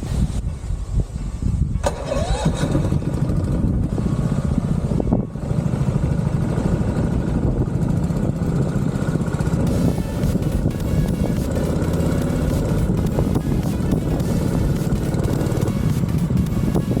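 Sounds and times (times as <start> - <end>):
small engine pulsing rumble: 1.8 - 17.0.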